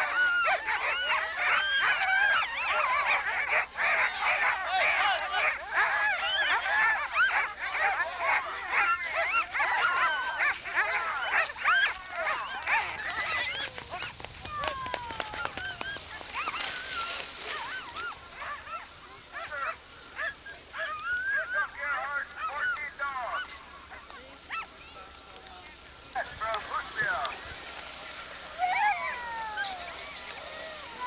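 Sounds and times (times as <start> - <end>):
dogs barking and yelping: 0.0 - 31.0.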